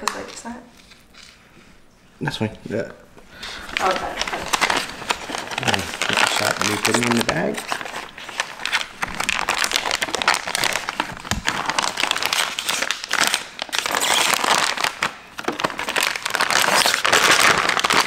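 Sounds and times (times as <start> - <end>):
plastic bag crinkling: 3.3 - 18.0.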